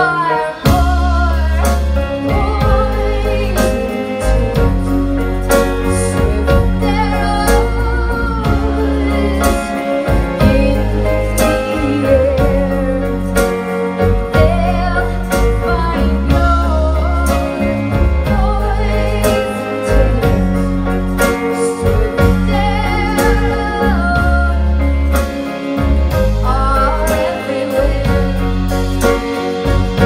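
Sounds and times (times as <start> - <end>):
drums: 0.0 - 30.0
electric guitar: 0.0 - 30.0
organ-like electric keyboard: 0.0 - 30.0
woman singing: 0.0 - 30.0.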